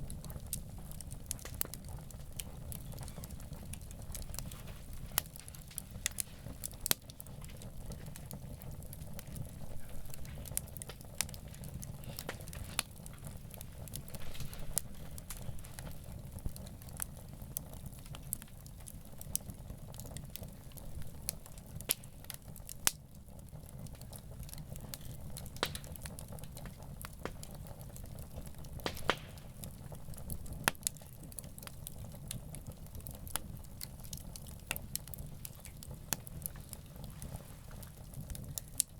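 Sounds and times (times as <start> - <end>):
campfire crackling and popping: 0.0 - 38.9
low steady fire rumble: 0.0 - 38.9.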